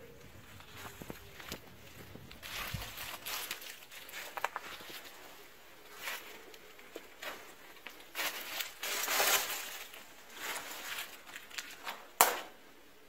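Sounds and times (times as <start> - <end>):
footsteps on rubble: 0.4 - 12.1.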